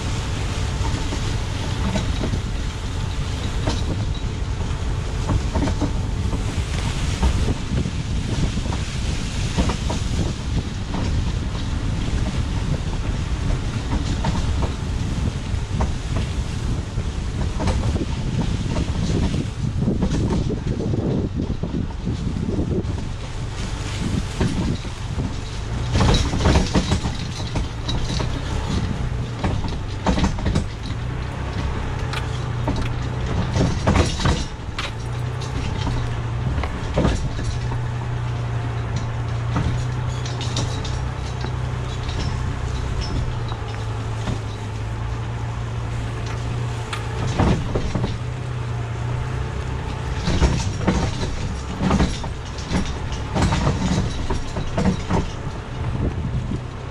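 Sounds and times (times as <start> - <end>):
car engine running: 0.0 - 56.9
hitch clanking and rattling: 0.0 - 56.9.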